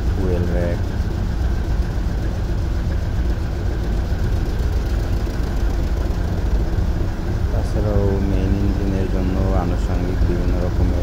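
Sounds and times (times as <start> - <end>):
diesel machinery droning: 0.0 - 11.0.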